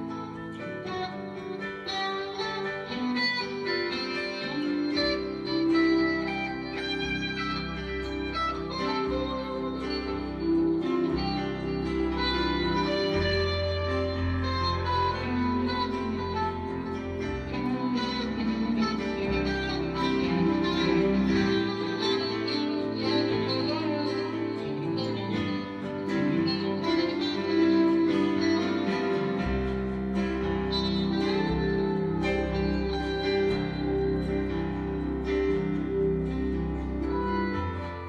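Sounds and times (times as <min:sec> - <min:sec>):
band backing: 0:00.0 - 0:38.0
electric guitar picked notes: 0:00.0 - 0:38.0.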